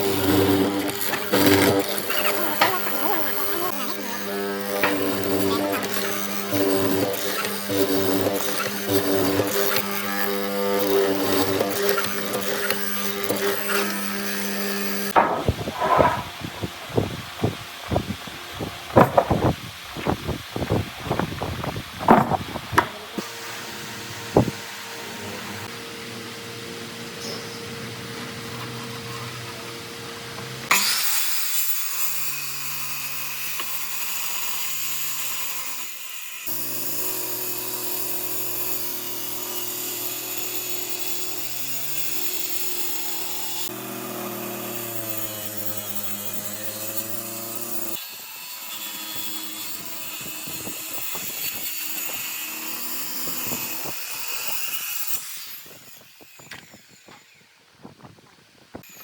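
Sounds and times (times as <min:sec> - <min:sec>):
power tools cutting wood: 0:00.0 - 0:58.1, 0:58.8 - 0:59.0.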